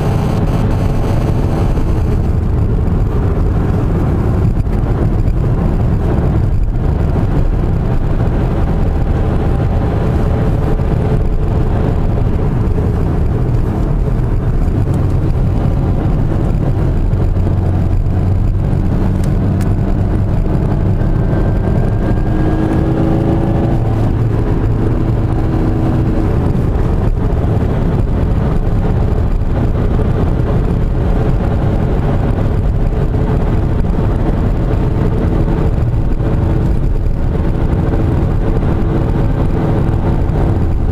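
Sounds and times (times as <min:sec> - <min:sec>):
car driving interior rumble: 0:00.0 - 0:40.9
car engine accelerating: 0:00.0 - 0:40.9.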